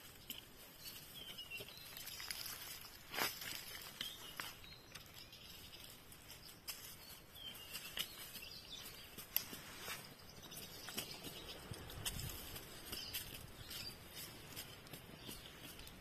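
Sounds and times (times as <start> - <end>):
twigs and leaves crackling: 0.0 - 16.0.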